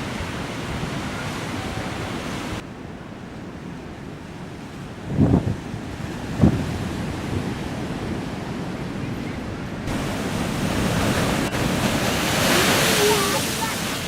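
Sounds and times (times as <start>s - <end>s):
waves breaking: 0.0s - 2.6s, 4.2s - 14.0s
wind buffeting microphone: 0.0s - 14.0s.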